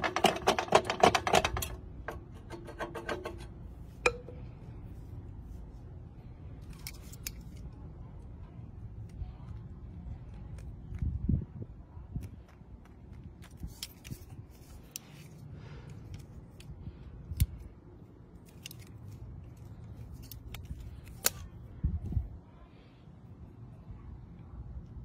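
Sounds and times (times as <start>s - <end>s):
low background rumble: 0.9s - 25.0s.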